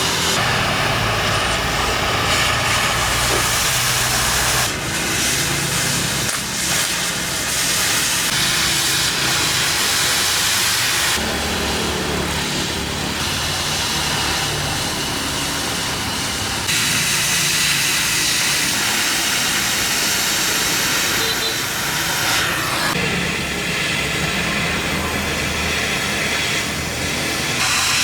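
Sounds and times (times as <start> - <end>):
machinery hissing: 0.0 - 28.0.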